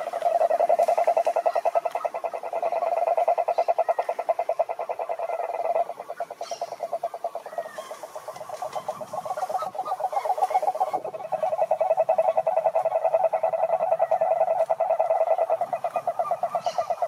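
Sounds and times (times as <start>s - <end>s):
toad pulsed trill call: 0.0s - 17.0s.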